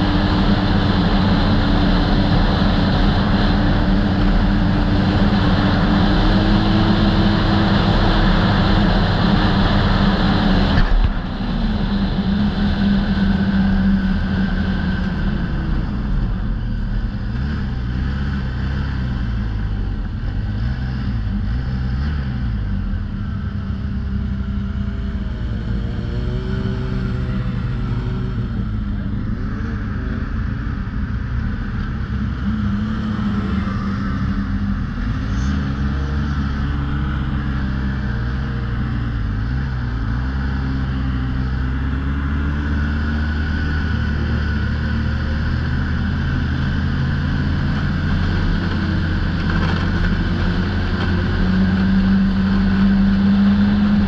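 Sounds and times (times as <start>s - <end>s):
other snowmobile engines: 0.0s - 54.0s
snowmobile engine running: 0.0s - 54.0s.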